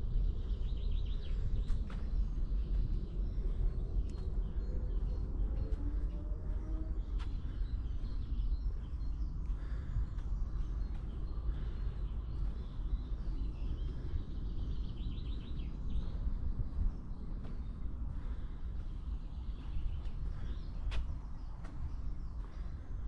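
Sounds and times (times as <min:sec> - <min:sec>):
low rumble: 0:00.0 - 0:23.0
small birds chirping: 0:00.0 - 0:23.0.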